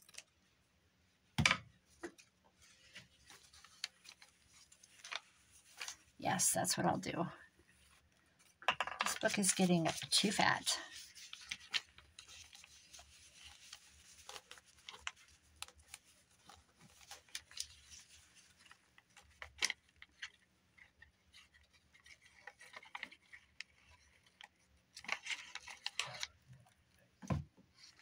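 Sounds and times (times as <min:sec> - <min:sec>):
paper and cloth rustling: 0:01.9 - 0:26.4.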